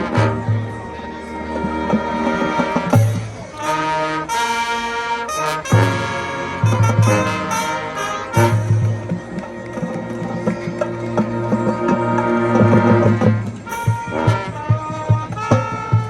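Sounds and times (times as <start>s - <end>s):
brass sustained chords: 0.0s - 9.2s, 11.2s - 16.0s
marching band playing: 0.0s - 16.0s.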